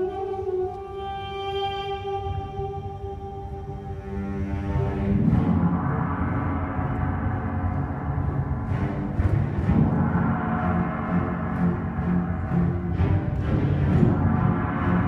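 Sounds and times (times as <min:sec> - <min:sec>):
orchestra playing: 0:00.0 - 0:15.0.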